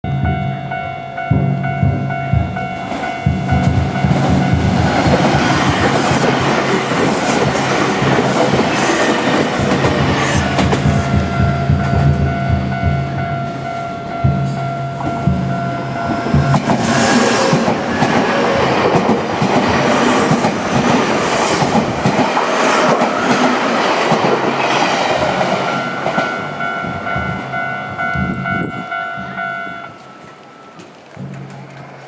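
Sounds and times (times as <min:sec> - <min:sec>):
crossing warning tone: 0:00.0 - 0:32.0
train wheels clattering over rails: 0:01.4 - 0:32.0.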